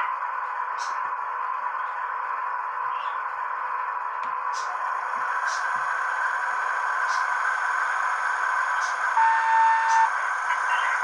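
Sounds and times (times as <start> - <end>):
tinny diesel engine sound from speaker: 0.0 - 11.0.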